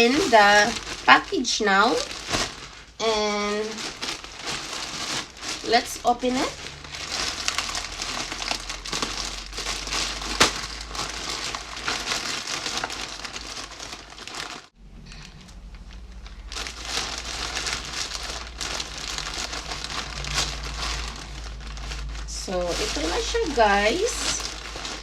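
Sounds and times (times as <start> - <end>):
plastic packaging crinkling: 0.0 - 14.8, 15.7 - 25.0.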